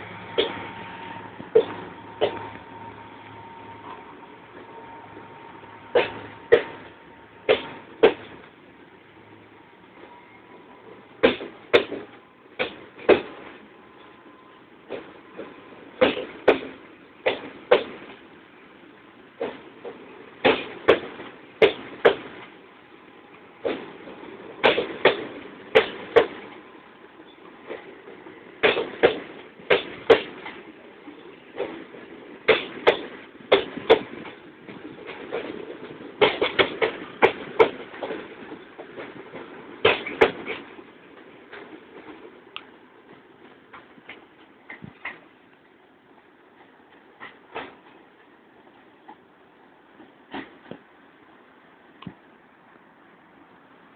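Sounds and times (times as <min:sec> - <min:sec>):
train rumble: 0:00.0 - 0:53.9
train wheels clacking on rail joints: 0:00.2 - 0:04.8, 0:05.8 - 0:08.6, 0:11.2 - 0:18.3, 0:19.2 - 0:22.6, 0:23.2 - 0:51.2.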